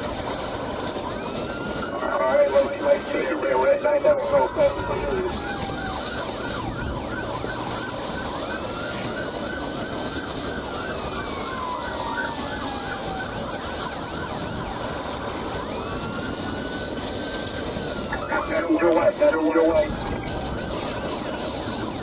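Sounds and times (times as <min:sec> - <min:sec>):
police siren wail: 0:00.0 - 0:22.0
police siren yelp: 0:00.0 - 0:22.0
road noise: 0:00.0 - 0:22.0.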